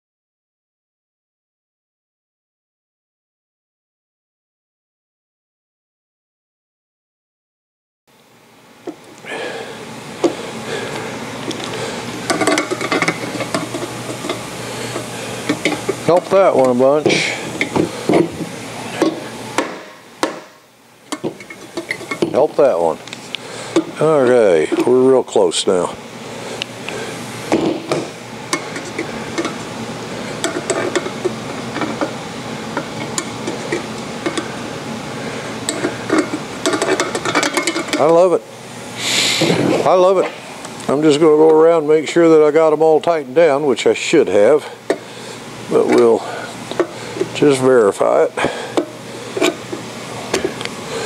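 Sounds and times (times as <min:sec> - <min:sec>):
steady low hum: 0:08.1 - 0:51.0.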